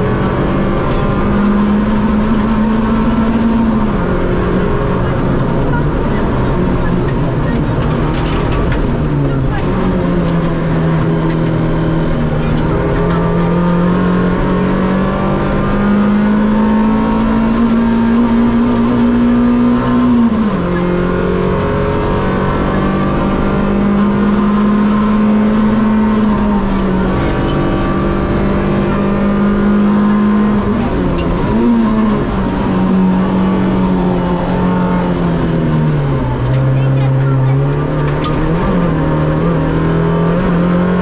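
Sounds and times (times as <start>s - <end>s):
rally car engine from inside cabin: 0.0s - 41.0s.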